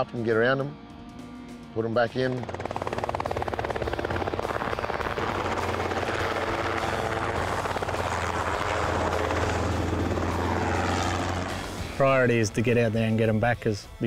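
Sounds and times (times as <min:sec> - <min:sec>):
helicopter engine drone: 0:00.0 - 0:12.7
helicopter rotor beating: 0:00.0 - 0:13.4.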